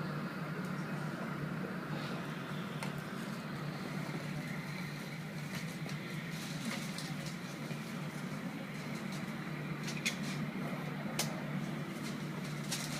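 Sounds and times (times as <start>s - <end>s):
airplane cabin hum: 0.0s - 12.9s.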